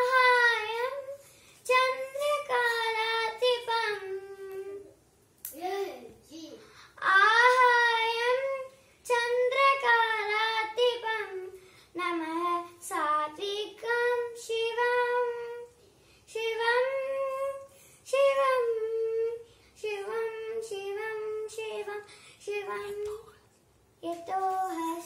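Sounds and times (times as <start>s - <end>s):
girl singing unaccompanied: 0.0s - 25.0s.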